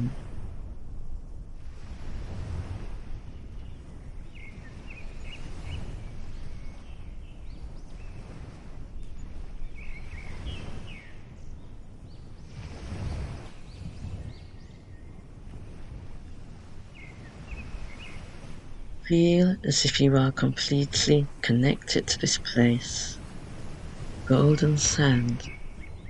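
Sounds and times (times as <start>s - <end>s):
ocean waves washing in: 0.0s - 26.0s
small birds chirping: 3.3s - 15.2s, 16.2s - 26.0s.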